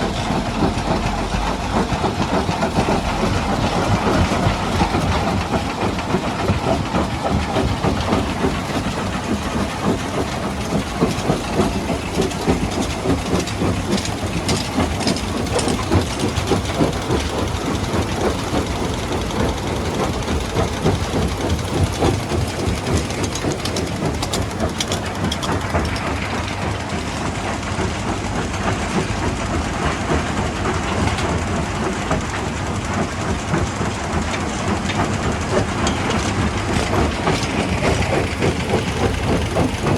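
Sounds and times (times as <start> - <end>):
low machine rumble: 0.0 - 28.6, 32.9 - 39.9.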